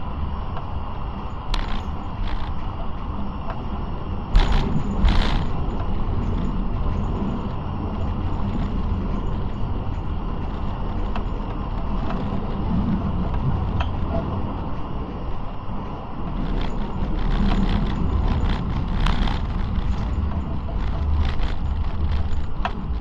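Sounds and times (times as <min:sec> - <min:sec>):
tram rumbling along track: 0:00.0 - 0:23.0
wheels clacking on rails: 0:00.6 - 0:23.0.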